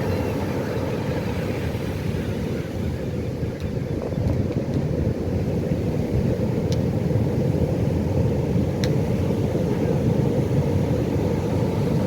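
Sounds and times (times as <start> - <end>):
ocean surf rumbling: 0.0 - 12.0.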